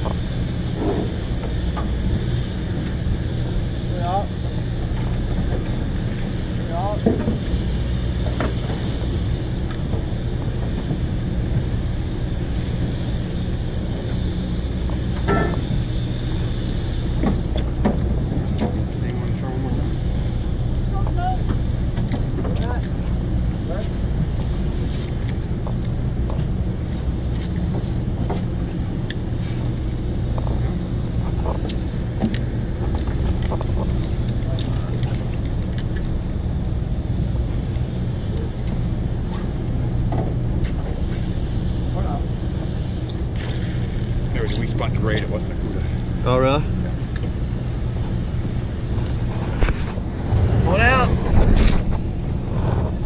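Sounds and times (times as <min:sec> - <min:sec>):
boat machinery droning: 0:00.0 - 0:53.0.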